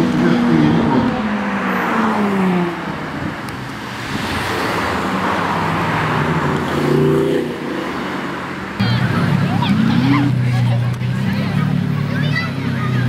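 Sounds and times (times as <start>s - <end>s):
cars driving slowly past: 0.0s - 13.0s.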